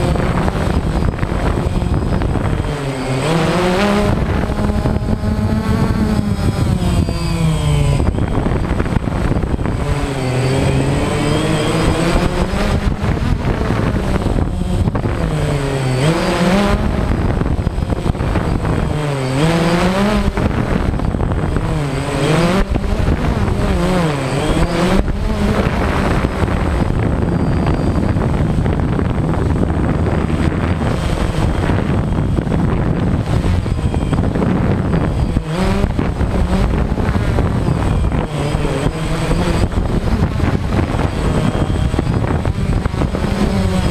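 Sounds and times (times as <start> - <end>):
drone propellers buzzing: 0.0 - 43.9
thin high whine: 0.0 - 43.9.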